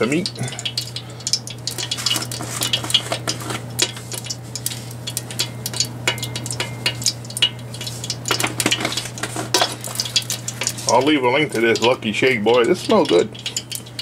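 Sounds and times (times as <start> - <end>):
rapid irregular clicks and crackles: 0.0 - 14.0
steady low hum: 0.0 - 14.0.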